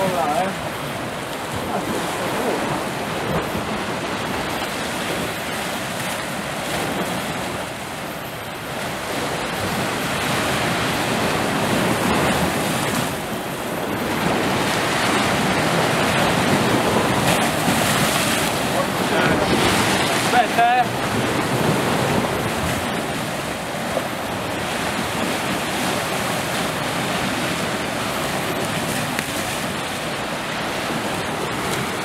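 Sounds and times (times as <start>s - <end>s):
waves breaking over rocks: 0.0s - 32.0s.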